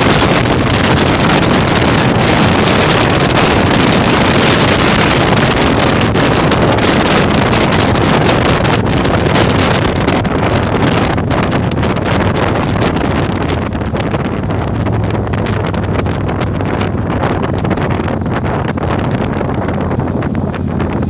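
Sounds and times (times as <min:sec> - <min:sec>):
motorcycle engine: 0:00.0 - 0:21.0
wind buffeting microphone: 0:00.0 - 0:21.0.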